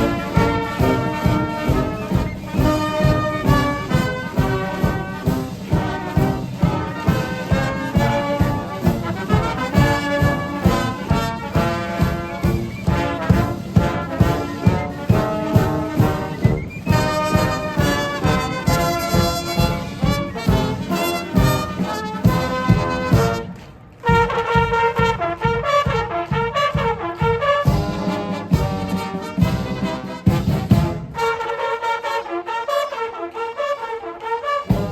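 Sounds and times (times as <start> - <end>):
brass band playing a march: 0.0 - 34.9.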